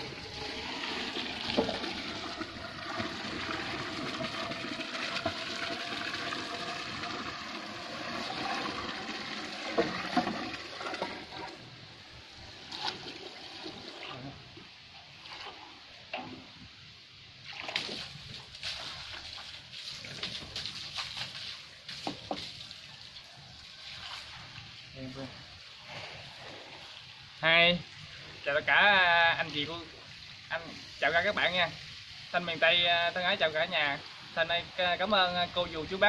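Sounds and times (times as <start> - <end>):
water pouring from a hose: 0.0 - 16.6, 17.4 - 36.0.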